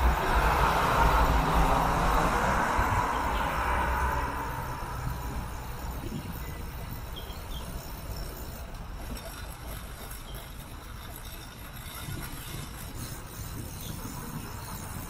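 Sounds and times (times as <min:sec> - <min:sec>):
bicycle rolling: 0:00.0 - 0:15.0
road traffic: 0:00.0 - 0:15.0.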